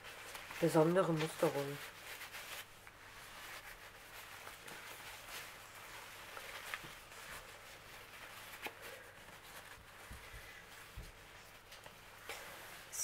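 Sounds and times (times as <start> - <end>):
paper towel rustling: 0.0 - 13.0.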